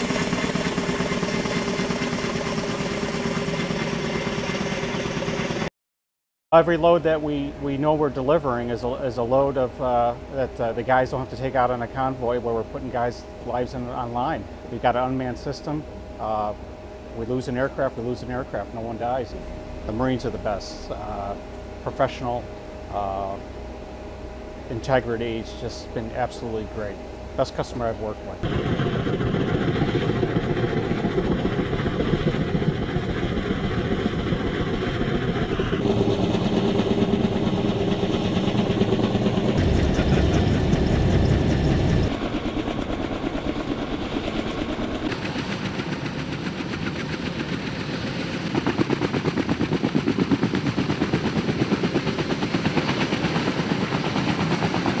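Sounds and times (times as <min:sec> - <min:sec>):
helicopter engine noise: 0:00.0 - 0:05.7, 0:06.6 - 0:55.0
helicopter rotor blades thudding: 0:00.0 - 0:05.7, 0:06.8 - 0:55.0.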